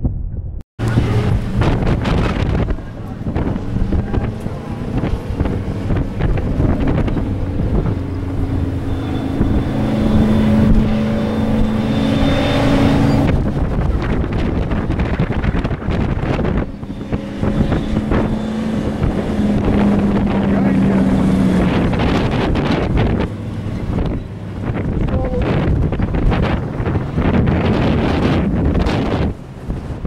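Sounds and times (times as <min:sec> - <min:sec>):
wind buffeting microphone: 0:00.0 - 0:30.0
truck engines racing: 0:00.8 - 0:30.0.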